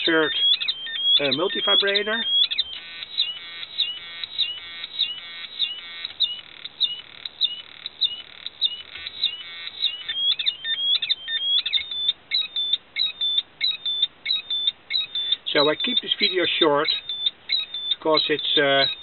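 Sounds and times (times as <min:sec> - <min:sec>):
electronic siren chirps and bleeps: 0:00.0 - 0:19.0.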